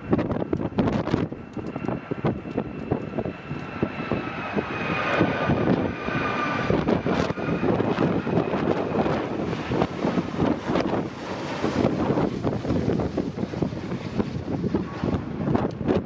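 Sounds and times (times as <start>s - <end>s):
jet engines whining: 0.0s - 16.0s
wind buffeting microphone: 0.0s - 16.0s.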